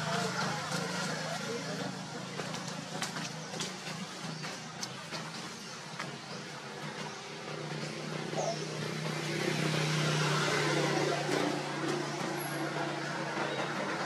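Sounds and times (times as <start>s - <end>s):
tyre and road noise: 0.0s - 14.0s
vehicle engine hum: 0.0s - 14.0s.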